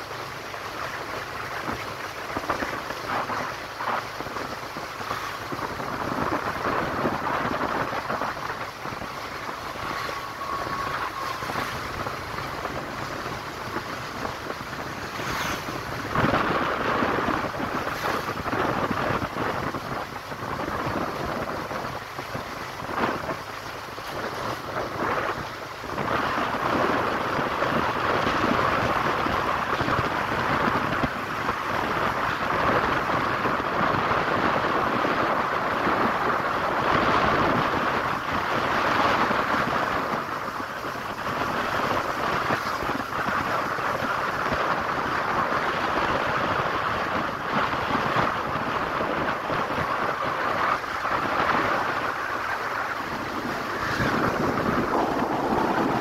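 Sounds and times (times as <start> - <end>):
motorcycle road noise: 0.0 - 56.0
wind rushing over microphone: 0.0 - 56.0.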